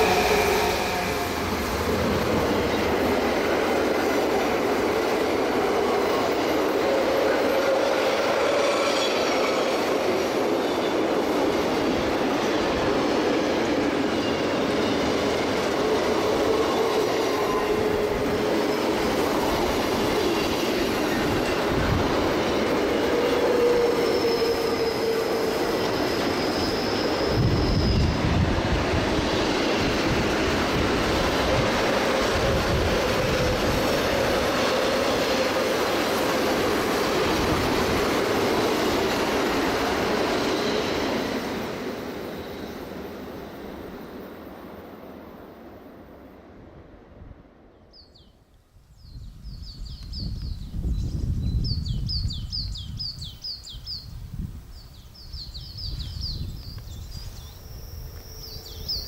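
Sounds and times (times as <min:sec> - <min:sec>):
train wheel squeal: 0:00.0 - 0:44.3, 0:55.3 - 0:59.0
train rolling on rails: 0:00.0 - 0:47.7, 0:49.2 - 0:59.0.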